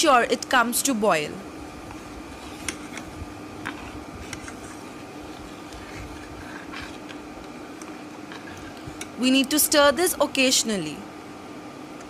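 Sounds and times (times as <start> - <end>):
steady hum and hiss: 0.0 - 12.0.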